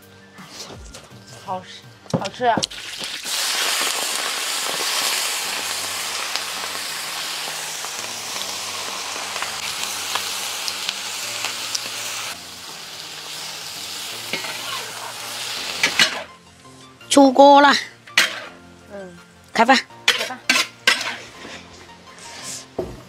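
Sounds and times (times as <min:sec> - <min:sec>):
hot oil sizzling in a wok: 0:02.2 - 0:21.4.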